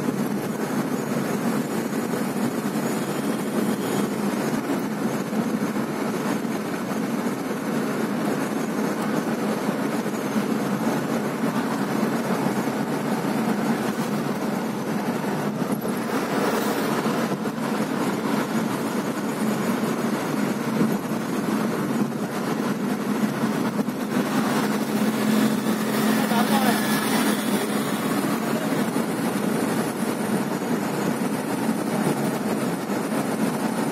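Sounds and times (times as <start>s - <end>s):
car cabin road noise: 0.0s - 33.9s.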